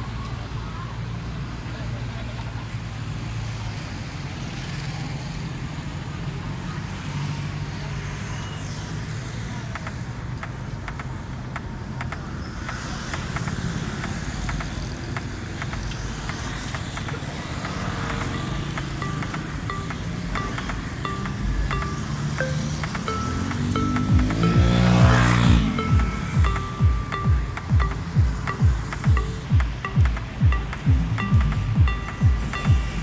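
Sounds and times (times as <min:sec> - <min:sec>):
cars and motorbikes driving past: 0:00.0 - 0:33.0.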